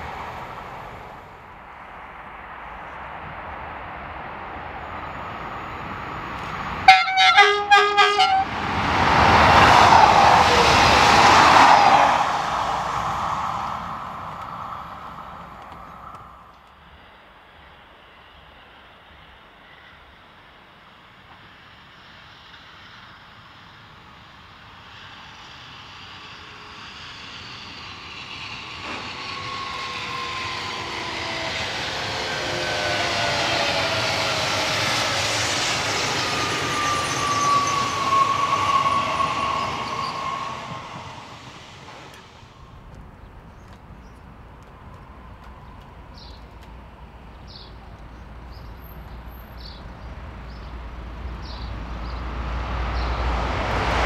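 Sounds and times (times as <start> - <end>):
train passing: 0.0 - 54.0.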